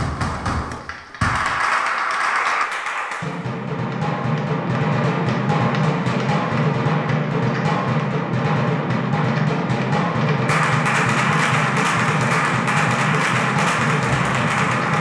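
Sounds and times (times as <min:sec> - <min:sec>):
percussion music over loudspeakers: 0:00.0 - 0:15.0.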